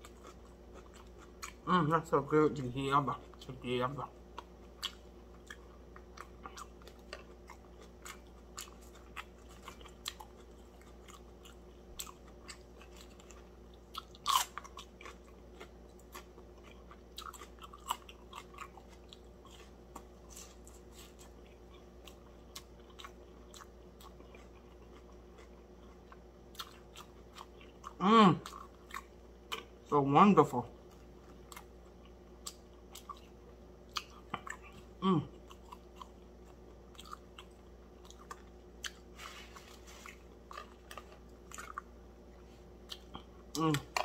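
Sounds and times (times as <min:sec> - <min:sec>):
chewing crispy fried fish: 0:00.0 - 0:44.0.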